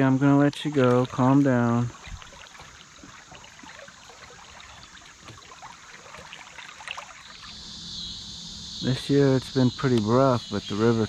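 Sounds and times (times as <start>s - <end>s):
insects trilling: 0.0s - 11.0s
river water trickling and lapping: 0.0s - 11.0s
small water splashes: 0.0s - 11.0s.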